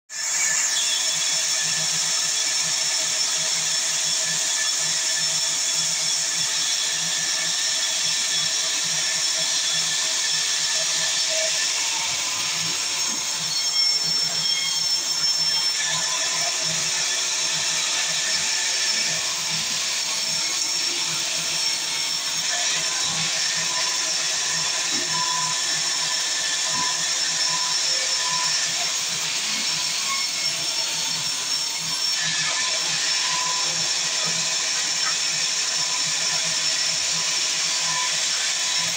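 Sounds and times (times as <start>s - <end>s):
sawmill saw whining: 0.1s - 38.9s.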